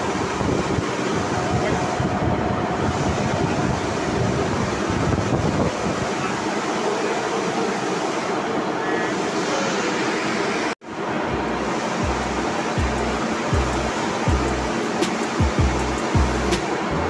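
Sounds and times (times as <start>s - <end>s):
metal lathe running: 0.0s - 17.0s.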